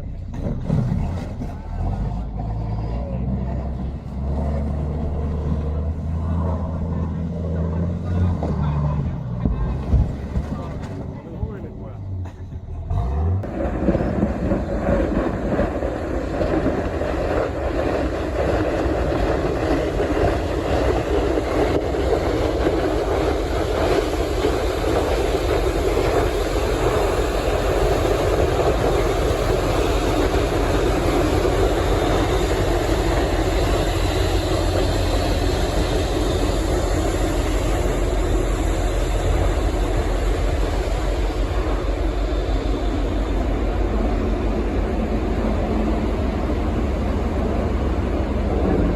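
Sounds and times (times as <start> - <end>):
ship engine rumble: 0.0 - 48.9.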